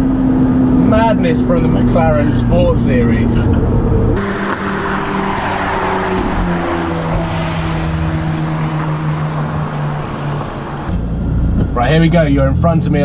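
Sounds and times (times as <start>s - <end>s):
car engine running: 0.0s - 11.8s
road and wind noise: 0.0s - 13.0s.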